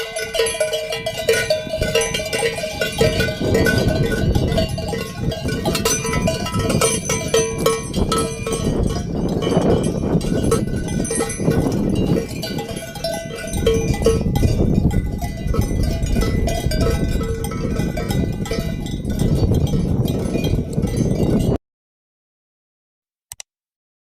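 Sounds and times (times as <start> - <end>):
sheep bells clanking: 0.0 - 21.6.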